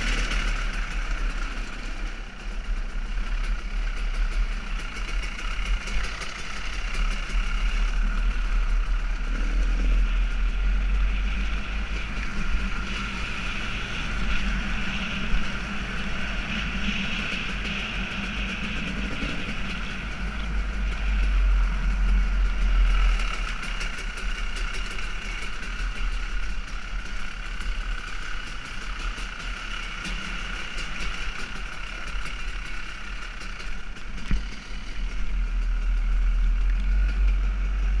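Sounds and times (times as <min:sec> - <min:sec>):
deep engine rumble: 0:00.0 - 0:38.0
dirt bike engine running: 0:00.0 - 0:38.0.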